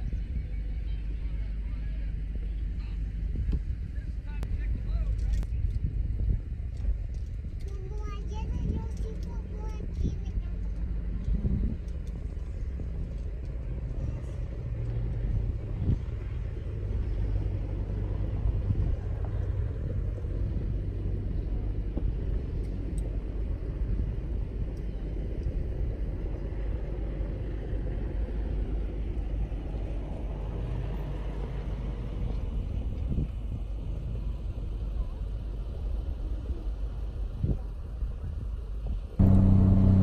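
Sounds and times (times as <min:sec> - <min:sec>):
off-road vehicle engine: 0:00.0 - 0:40.0
road rumble: 0:00.0 - 0:40.0.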